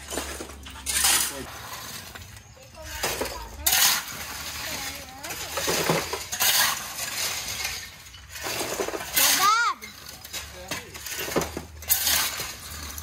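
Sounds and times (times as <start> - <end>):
brick fragments clinking: 0.0 - 13.0
shovel scraping through rubble: 0.0 - 13.0.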